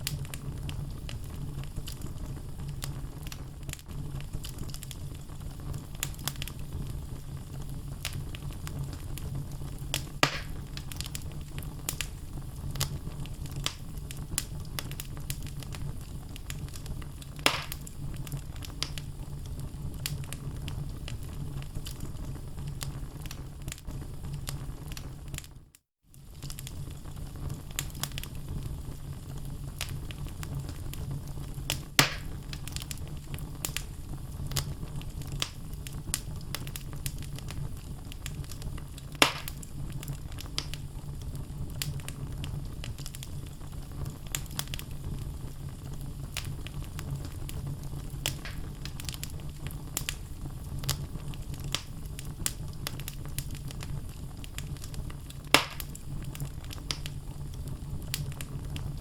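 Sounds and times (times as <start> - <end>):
logs crackling in fireplace: 0.0 - 59.0
loud fire pops: 0.0 - 59.0.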